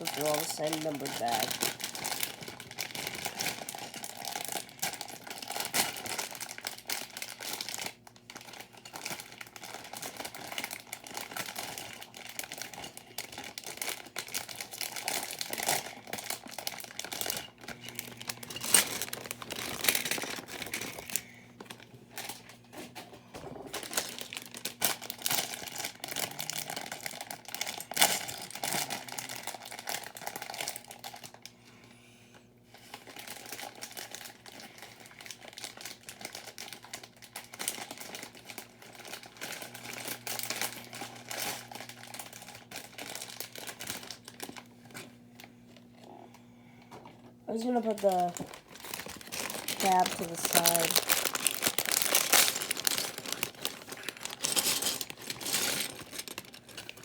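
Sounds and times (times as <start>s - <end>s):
plastic bags crinkling: 0.0s - 22.9s, 23.6s - 31.5s, 32.8s - 46.3s, 47.5s - 57.0s.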